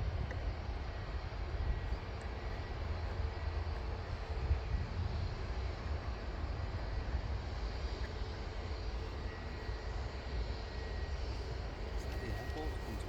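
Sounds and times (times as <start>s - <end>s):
distant airliner engines running: 0.0s - 13.0s.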